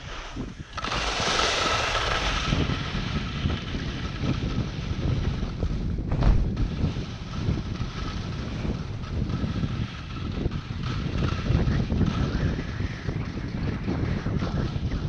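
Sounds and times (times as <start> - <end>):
skis sliding over hard snow: 0.0 - 15.0
wind buffeting microphone: 0.0 - 15.0.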